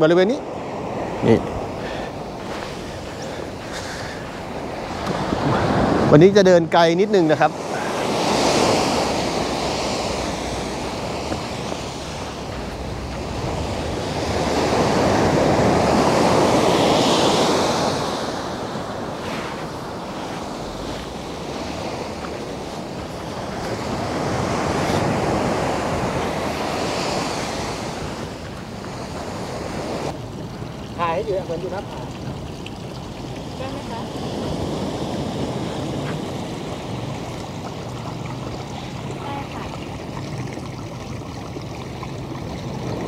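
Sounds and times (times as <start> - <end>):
sea waves washing on shore: 0.0 - 43.0
wind buffeting microphone: 0.0 - 43.0.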